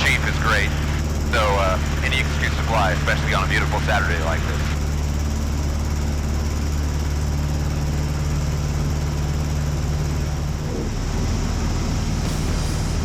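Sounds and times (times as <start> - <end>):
light airplane engine droning: 0.0 - 13.0.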